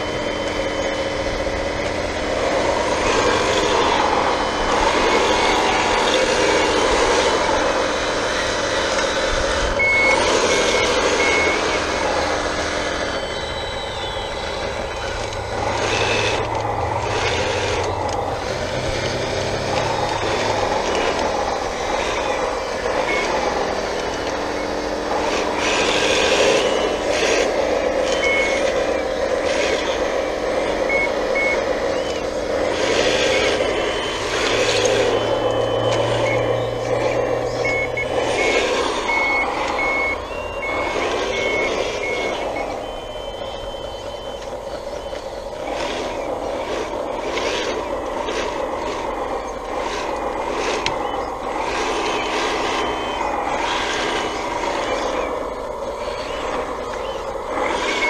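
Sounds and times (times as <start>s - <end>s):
reversing alarm beeping: 0.0s - 58.0s
whine of motors and hydraulic pumps: 0.0s - 58.0s.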